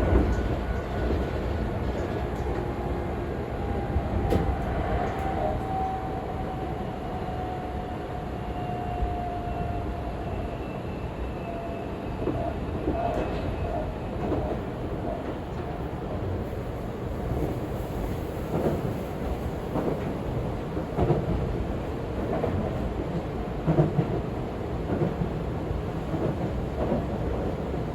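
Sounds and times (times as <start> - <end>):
train wheels rumbling on rails: 0.0 - 7.8, 11.4 - 27.9.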